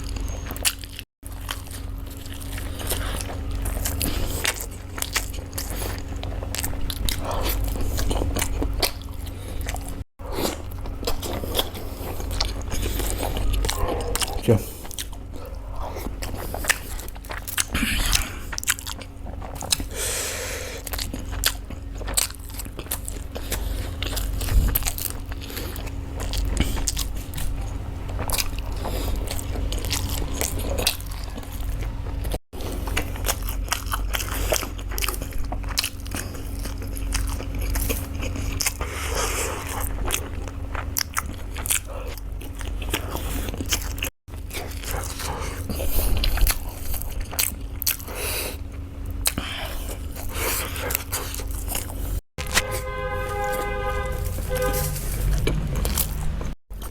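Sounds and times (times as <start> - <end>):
person biting and chewing food: 0.0 - 56.9
steady low hum: 0.0 - 56.9.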